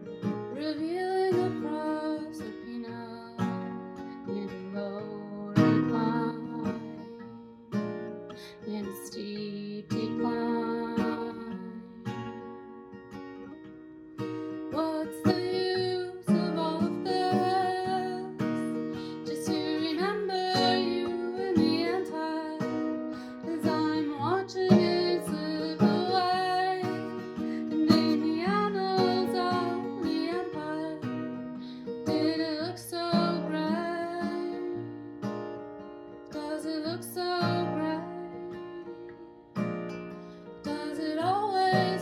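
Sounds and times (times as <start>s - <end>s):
strummed acoustic guitar: 0.0s - 42.0s.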